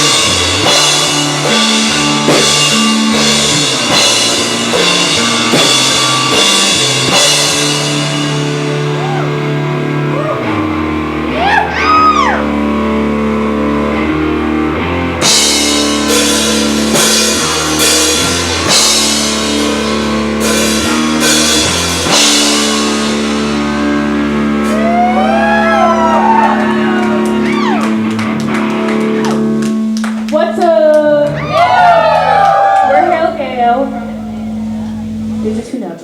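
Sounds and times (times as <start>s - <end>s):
bass guitar: 0.0s - 36.0s
drum kit: 0.0s - 36.0s
electric guitar: 0.0s - 36.0s.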